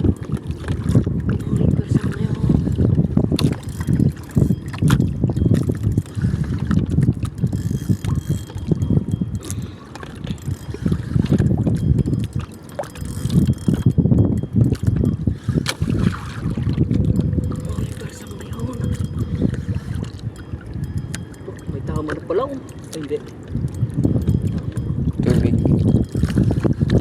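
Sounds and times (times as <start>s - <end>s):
water noise: 0.0s - 27.0s
wind rumbling: 0.0s - 27.0s.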